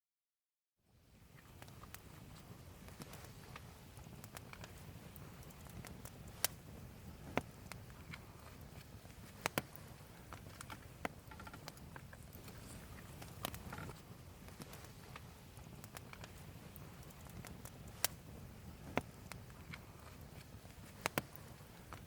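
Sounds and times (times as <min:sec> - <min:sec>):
firewood crackling and popping: 0:01.2 - 0:22.0.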